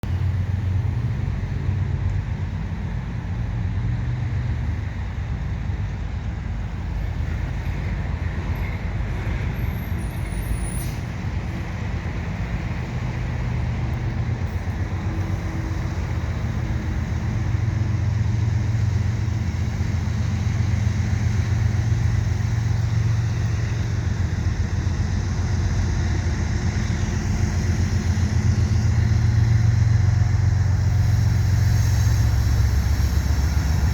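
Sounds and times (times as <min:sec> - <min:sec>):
locomotive diesel engines rumbling: 0:00.0 - 0:33.9.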